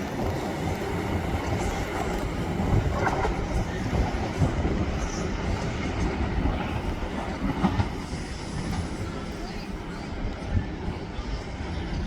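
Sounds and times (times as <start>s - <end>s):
train rumbling on tracks: 0.0s - 12.0s.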